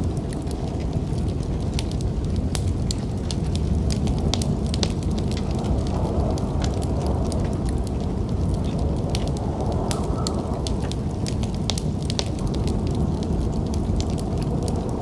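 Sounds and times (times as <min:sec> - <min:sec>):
fire crackling and popping: 0:00.0 - 0:15.0
low rumble of wind: 0:00.0 - 0:15.0.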